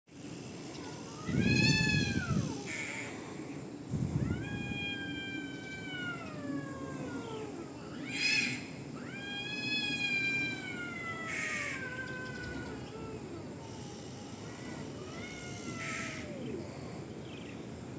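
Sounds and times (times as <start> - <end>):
cat yowling: 0.9 - 2.9, 4.1 - 16.6.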